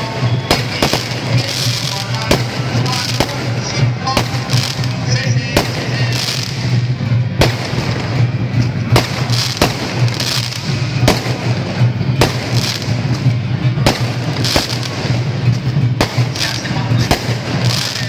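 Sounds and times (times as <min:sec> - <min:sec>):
firecracker strings crackling: 0:00.0 - 0:18.0
loud firecracker bangs: 0:00.0 - 0:18.0.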